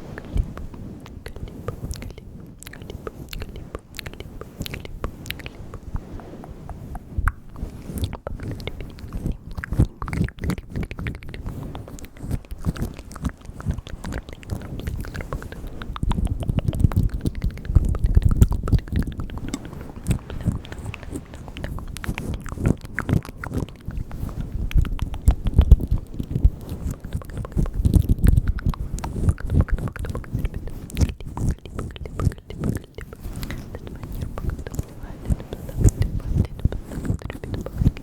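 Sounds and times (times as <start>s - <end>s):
wet mouth clicks and smacks: 0.0s - 38.0s
soft low thumps: 4.7s - 38.0s.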